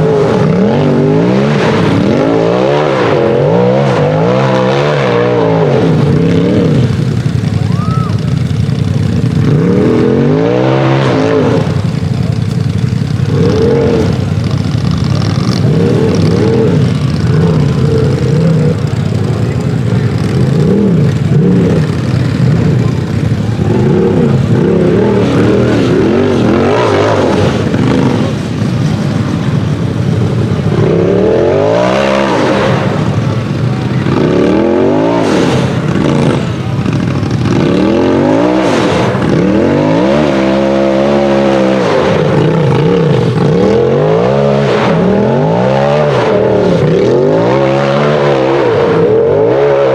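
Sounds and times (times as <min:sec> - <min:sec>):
race engine revving hard: 0:00.0 - 0:49.9.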